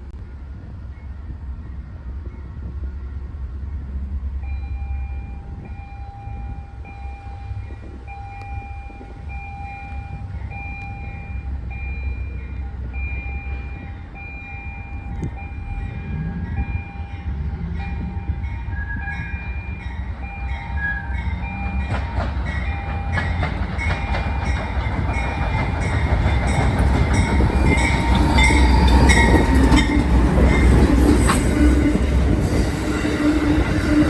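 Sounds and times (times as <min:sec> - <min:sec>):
low rumble of trains: 0:00.0 - 0:34.0
railroad crossing bell ringing: 0:04.4 - 0:34.0.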